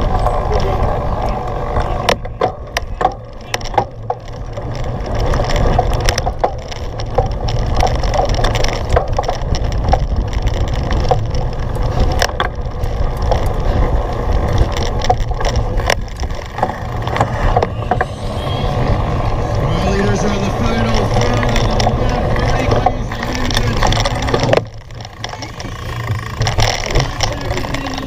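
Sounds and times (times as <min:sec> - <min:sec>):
bike frame rattling: 0:00.0 - 0:28.0
low rumble on microphone: 0:00.0 - 0:28.0
sharp clicks and knocks: 0:02.0 - 0:18.1, 0:19.5 - 0:28.0.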